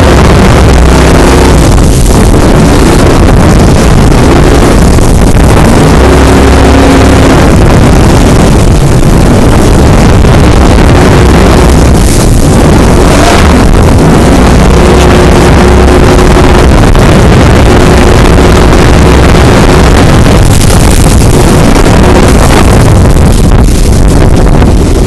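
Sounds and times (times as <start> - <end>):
rushing water: 0.0 - 25.0
speedboat engine: 0.0 - 25.0
wind buffeting microphone: 0.0 - 25.0.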